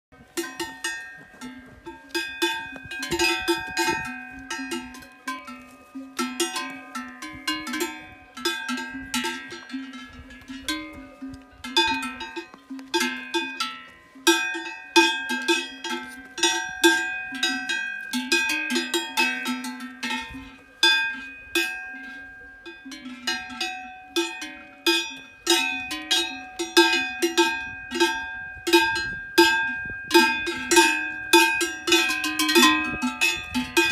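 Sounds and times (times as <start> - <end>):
cowbells clanking: 0.2 - 33.9.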